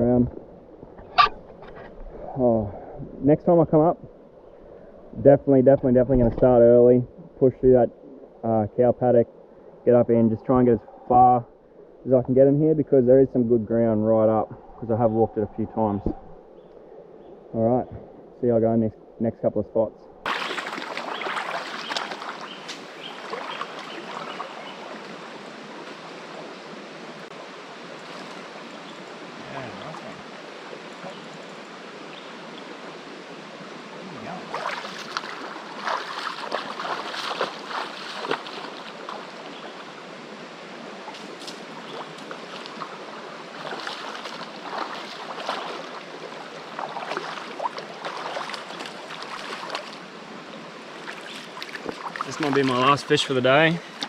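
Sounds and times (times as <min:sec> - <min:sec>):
creek water running: 0:00.0 - 0:54.0.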